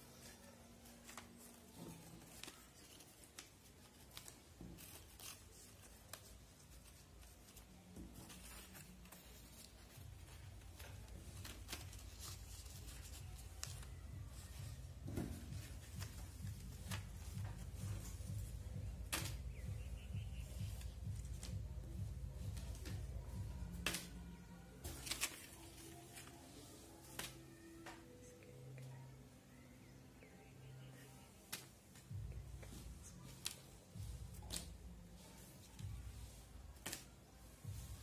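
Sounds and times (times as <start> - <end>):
paper rustling and crinkling: 0.1 - 28.4, 31.4 - 38.0.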